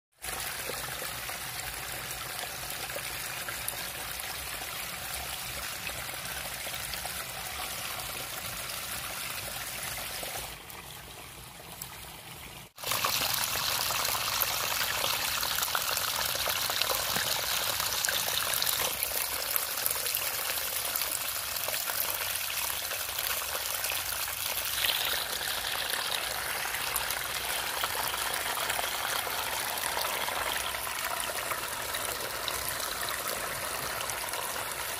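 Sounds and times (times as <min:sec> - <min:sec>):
water trickling through grass: 0:00.2 - 0:34.9.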